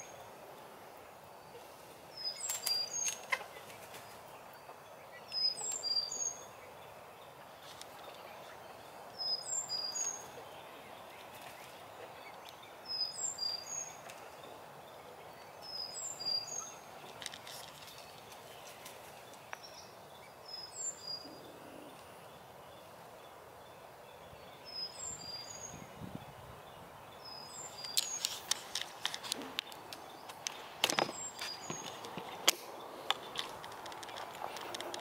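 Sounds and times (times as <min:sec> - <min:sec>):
bird chirping: 0:00.0 - 0:35.0
steady background noise: 0:00.0 - 0:35.0.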